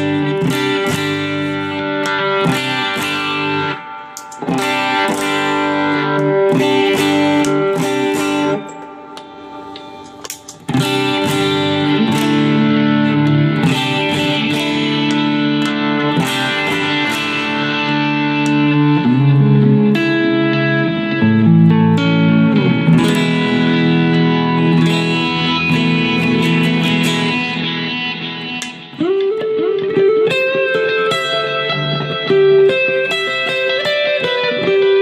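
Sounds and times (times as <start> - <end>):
electric guitar chords ringing: 0.0 - 35.0.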